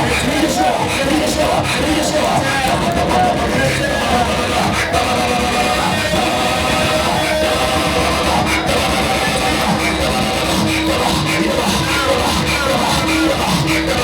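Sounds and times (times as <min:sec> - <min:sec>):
guitar band music: 0:00.0 - 0:14.0.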